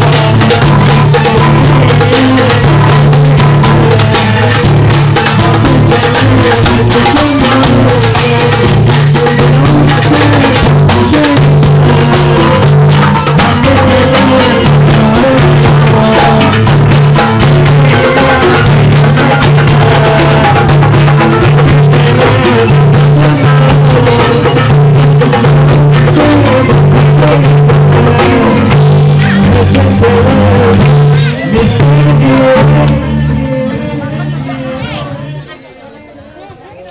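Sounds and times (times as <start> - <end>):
loud music with drums and percussion: 0.0 - 35.5.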